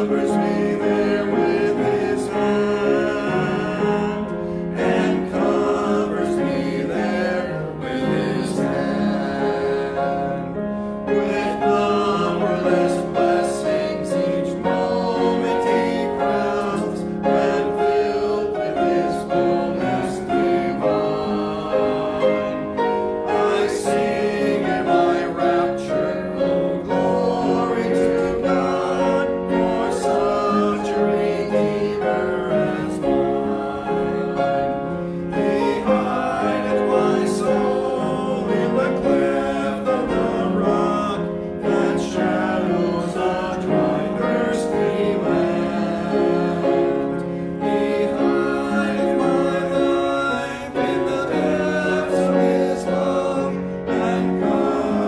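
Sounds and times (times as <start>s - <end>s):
man singing a hymn: 0.0s - 55.0s
piano accompaniment: 0.0s - 55.0s.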